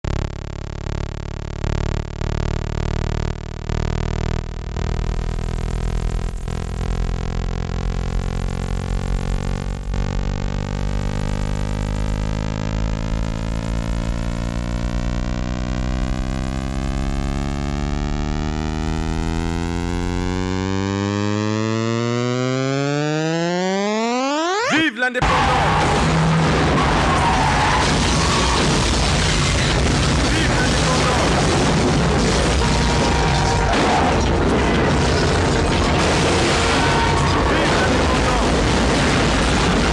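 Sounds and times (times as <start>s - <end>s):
buzzing drone sweeping upward: 0.0s - 39.9s.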